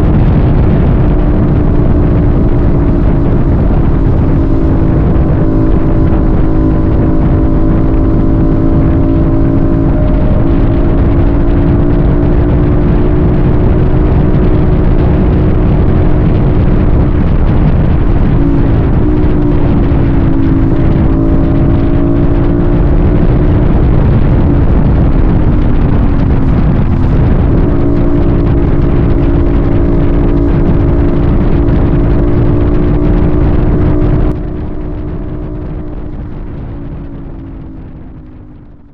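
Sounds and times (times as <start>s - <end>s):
road and wind rumble: 0.0s - 38.9s
vehicle engine cruising: 0.0s - 38.9s.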